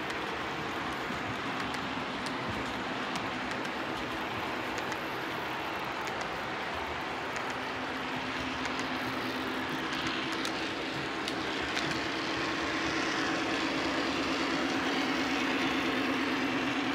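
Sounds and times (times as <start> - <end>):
clicks over rail joints: 0.0 - 16.9
model trains rumbling and humming: 0.0 - 16.9.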